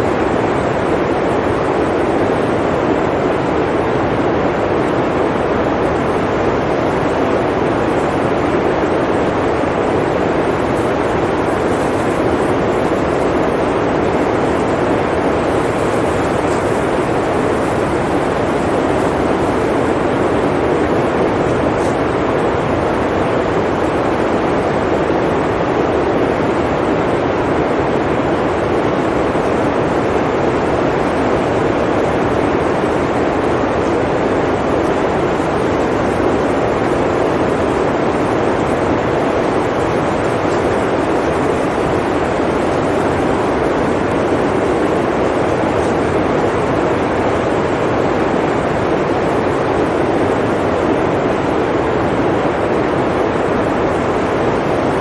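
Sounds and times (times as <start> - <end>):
blizzard wind rushing: 0.0 - 55.0.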